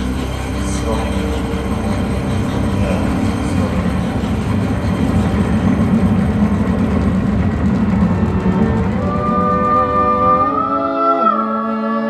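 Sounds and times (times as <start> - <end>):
low rumbling drone: 0.0 - 11.6.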